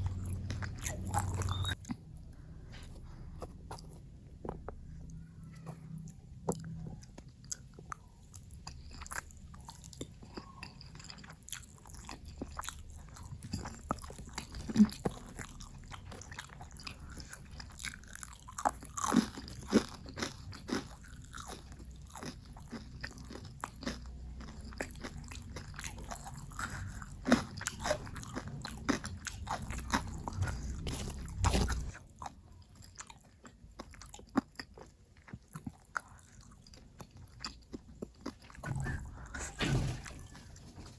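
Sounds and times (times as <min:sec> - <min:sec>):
person eating crunchy food: 0:00.0 - 0:40.5.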